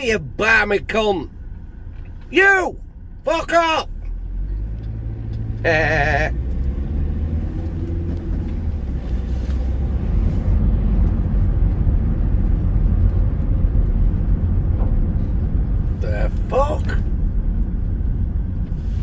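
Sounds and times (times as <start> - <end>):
van engine and road noise: 0.0 - 19.0.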